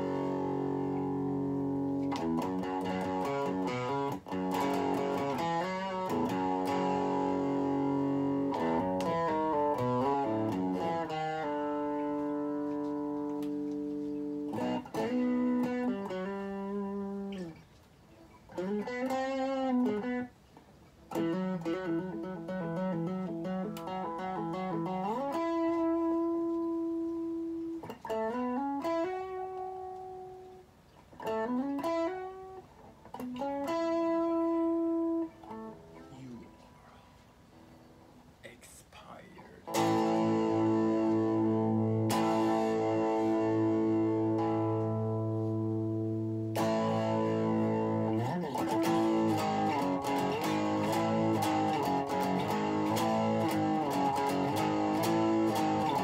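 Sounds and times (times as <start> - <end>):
electric guitar chords and notes: 0.0 - 38.4, 39.6 - 56.0.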